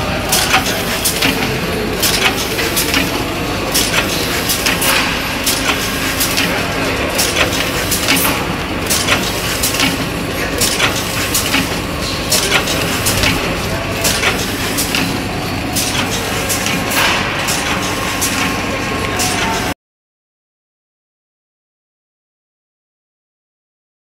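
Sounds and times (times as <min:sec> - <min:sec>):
packing machine running: 0:00.0 - 0:19.7
sharp mechanical clacks: 0:00.3 - 0:19.7.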